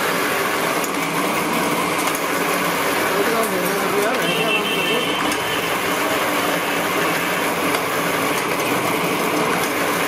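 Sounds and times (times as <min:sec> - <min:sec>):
tapping machine running: 0:00.0 - 0:10.0.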